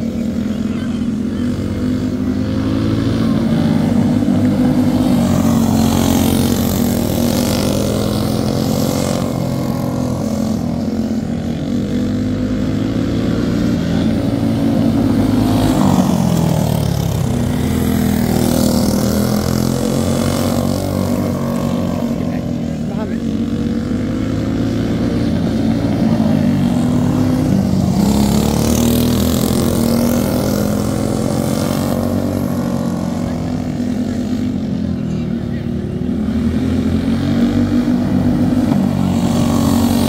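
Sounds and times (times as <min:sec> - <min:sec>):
go-kart engines racing: 0:00.0 - 0:40.0.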